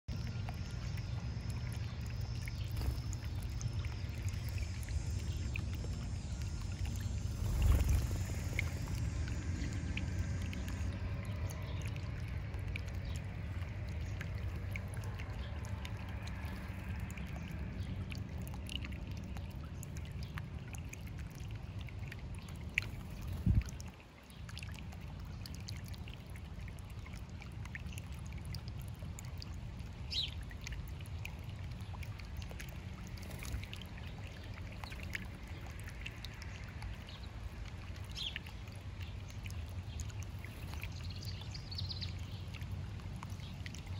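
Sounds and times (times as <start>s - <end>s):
fountain water trickling: 0.1s - 43.9s.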